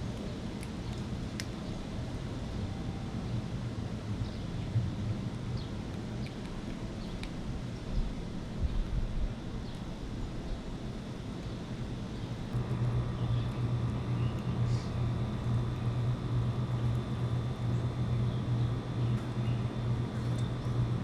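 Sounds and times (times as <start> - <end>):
low mechanical hum: 0.0 - 21.0
outdoor background noise: 0.0 - 21.0.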